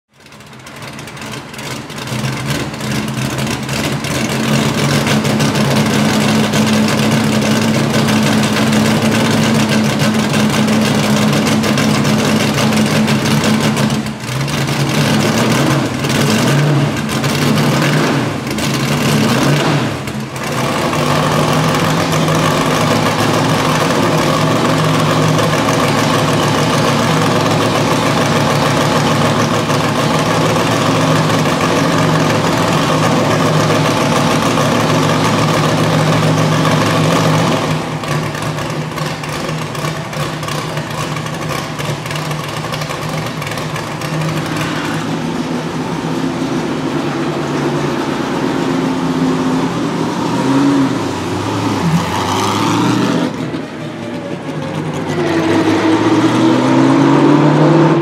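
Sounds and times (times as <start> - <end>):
car engine idling: 0.1 - 57.2
engine revving under throttle: 2.1 - 53.8, 54.6 - 58.0.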